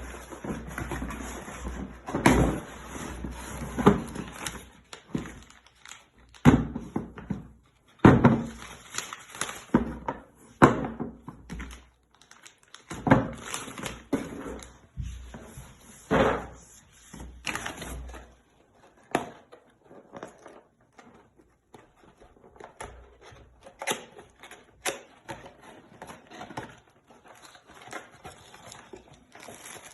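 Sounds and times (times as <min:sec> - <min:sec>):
packaging rustling: 0:00.0 - 0:06.4, 0:08.4 - 0:09.9, 0:11.6 - 0:15.8, 0:16.8 - 0:29.9.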